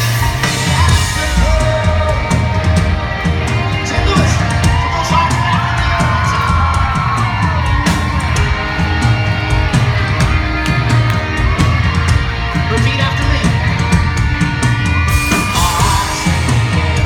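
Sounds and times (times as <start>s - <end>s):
crowd yelling: 0.0s - 17.0s
pop-rock band playing live: 0.0s - 17.0s.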